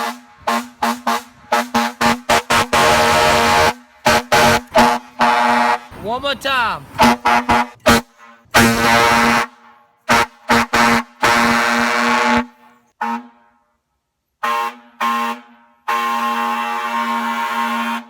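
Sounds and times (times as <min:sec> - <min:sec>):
fire truck air horn blasts: 0:00.0 - 0:13.8, 0:14.4 - 0:18.0.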